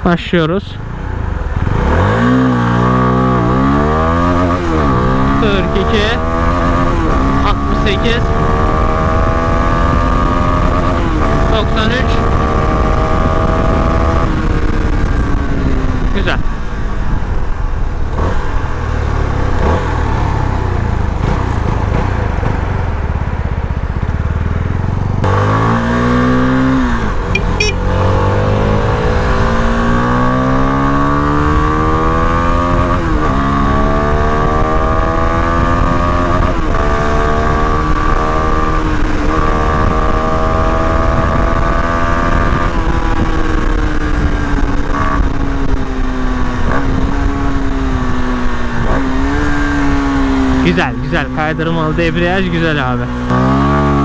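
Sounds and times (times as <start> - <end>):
motorcycle engine accelerating: 0.0 - 54.0
wind rush: 1.2 - 23.0, 25.4 - 54.0.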